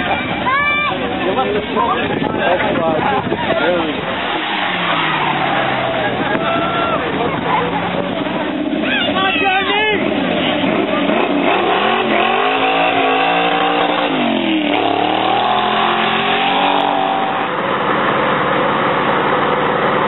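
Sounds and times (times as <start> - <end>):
car engine revving: 3.4 - 20.0.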